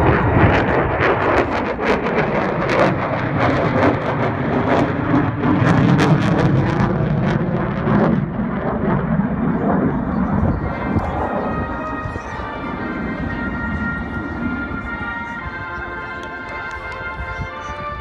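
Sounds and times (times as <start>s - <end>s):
crackling jet rumble: 0.0s - 18.0s
jet passing overhead: 0.0s - 18.0s.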